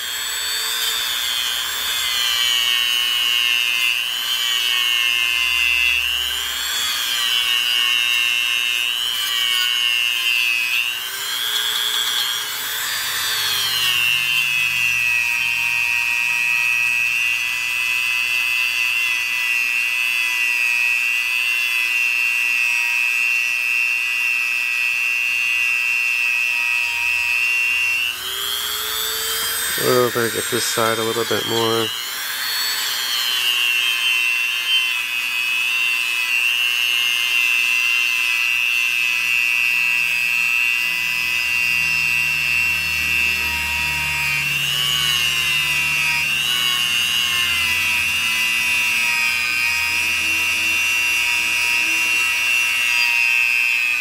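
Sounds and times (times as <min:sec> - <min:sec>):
rotary tool whining: 0:00.0 - 0:54.0.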